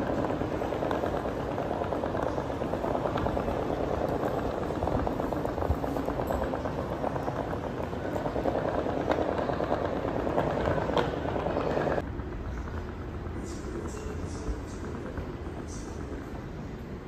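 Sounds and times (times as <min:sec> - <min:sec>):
rumbling station hall ambience: 0:00.0 - 0:17.0.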